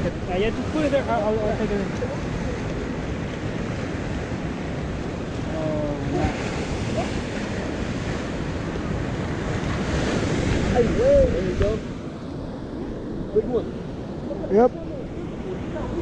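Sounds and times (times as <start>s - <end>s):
sea waves and surf: 0.0s - 16.0s
wind buffeting microphone: 0.0s - 16.0s.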